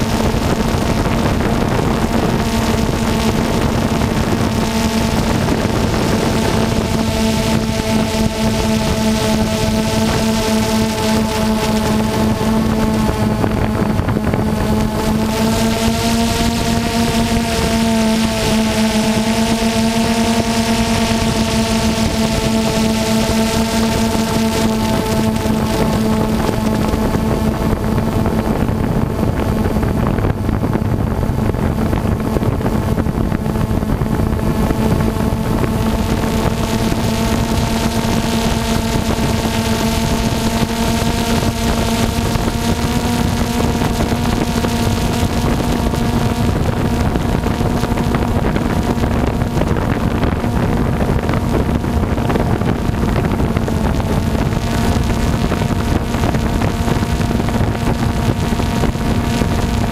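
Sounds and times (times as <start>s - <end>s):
drone propellers humming: 0.0s - 59.9s
wind noise on microphone: 0.0s - 59.9s.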